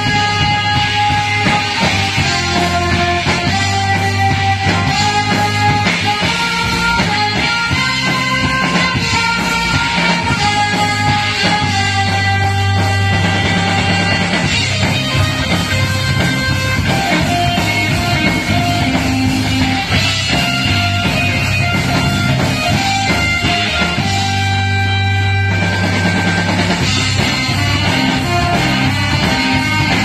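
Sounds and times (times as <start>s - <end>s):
marching band music: 0.0s - 30.0s.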